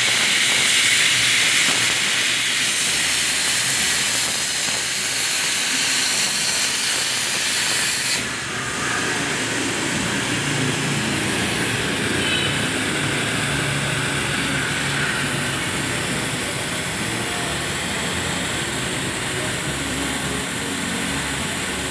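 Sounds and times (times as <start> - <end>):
plasma cutter hissing: 0.0 - 21.9.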